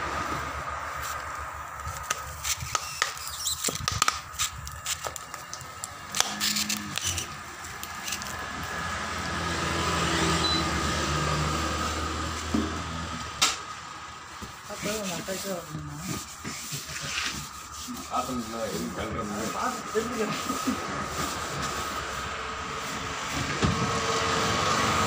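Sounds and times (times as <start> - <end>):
vehicle engine hum: 0.0 - 25.0.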